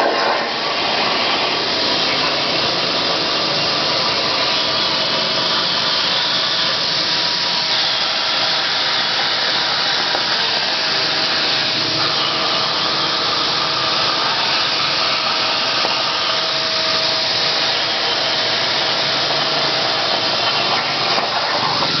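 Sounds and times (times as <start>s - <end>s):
plasma torch hissing: 0.0s - 22.0s.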